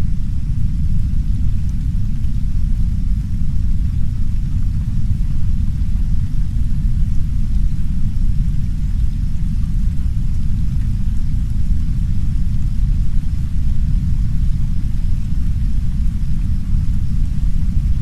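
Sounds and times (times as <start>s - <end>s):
deep steady brown noise rumble: 0.0s - 18.0s
soft rain hissing: 0.0s - 18.0s.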